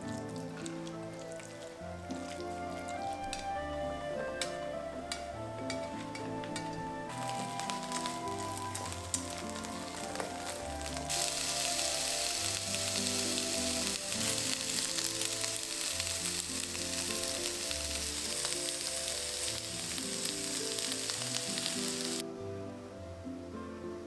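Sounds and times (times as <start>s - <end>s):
eggplant sizzling in oil: 0.0s - 3.7s, 5.7s - 22.2s
soft background music: 0.0s - 24.0s.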